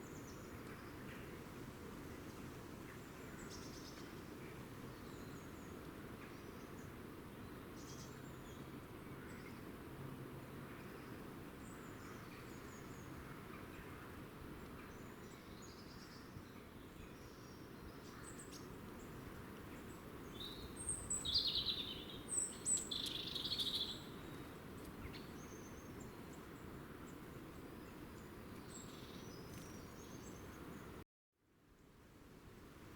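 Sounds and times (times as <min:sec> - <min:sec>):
low background noise: 0:00.0 - 0:32.9.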